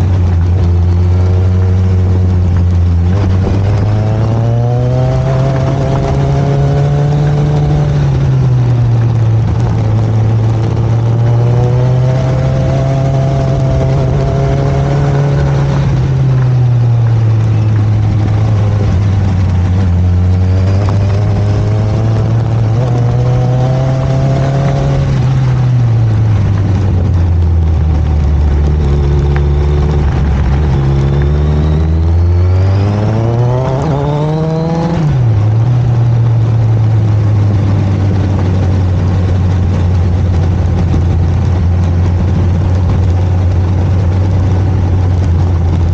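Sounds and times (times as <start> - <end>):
motorcycle engine revving: 0.0 - 45.9
steady rushing noise: 0.0 - 45.9.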